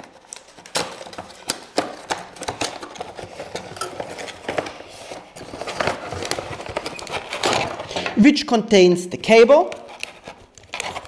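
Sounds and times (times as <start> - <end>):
cardboard box being opened: 0.0 - 7.9, 9.7 - 11.0.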